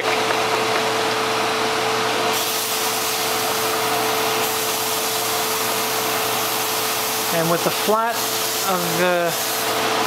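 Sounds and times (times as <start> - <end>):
electrical or fan hum: 0.0 - 10.0.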